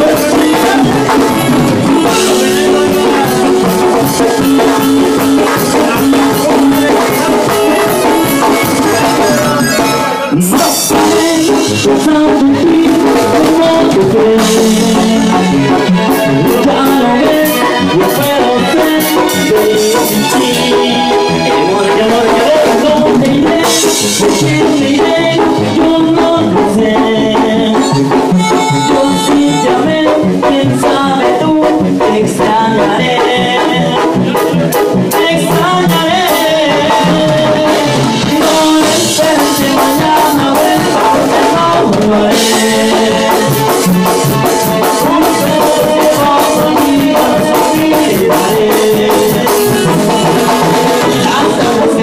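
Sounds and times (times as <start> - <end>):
live band playing: 0.0 - 52.0
person singing into microphone: 0.0 - 52.0.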